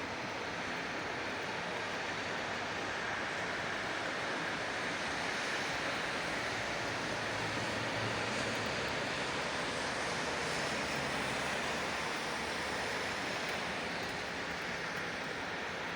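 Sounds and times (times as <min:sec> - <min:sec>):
wind: 0:00.0 - 0:15.9.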